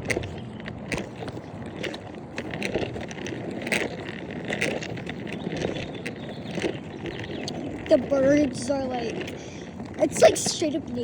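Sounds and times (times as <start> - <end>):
scooter wheels rolling: 0.0 - 11.0
wheel and frame rattles: 0.0 - 11.0.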